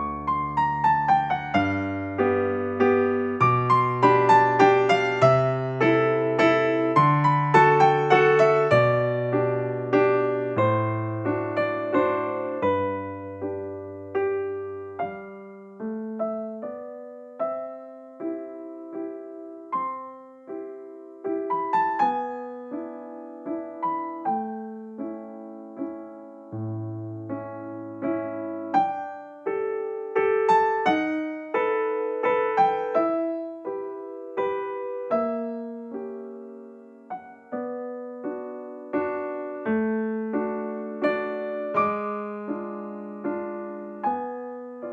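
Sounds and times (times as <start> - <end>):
gentle piano piece: 0.0 - 44.9.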